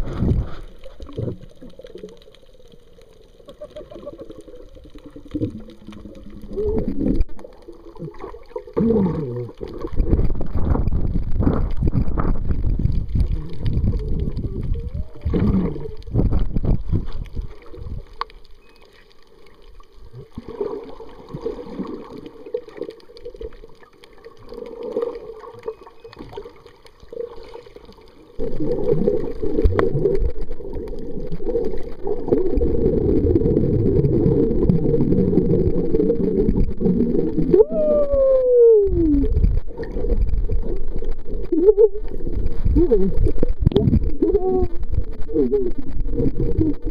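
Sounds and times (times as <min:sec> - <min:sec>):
underwater water sloshing: 0:00.0 - 0:37.6, 0:39.3 - 0:46.8.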